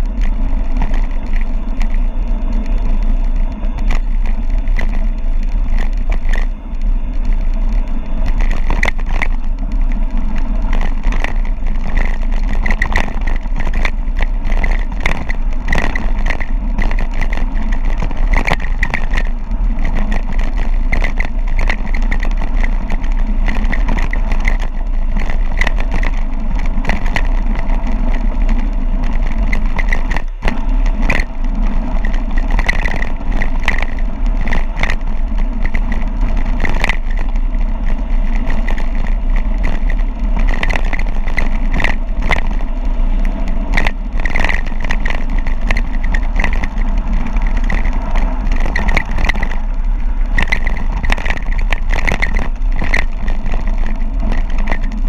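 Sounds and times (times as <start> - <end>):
bike rattling and clicking: 0.0 - 55.0
tyres on gravel: 0.0 - 55.0
wind rush on microphone: 0.0 - 55.0.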